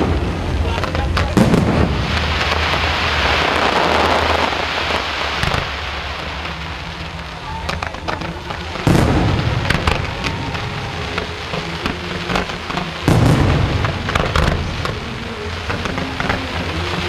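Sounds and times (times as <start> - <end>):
firework booms: 0.0 - 17.0
fireworks crackling and popping: 0.0 - 17.0
background music: 3.3 - 17.0.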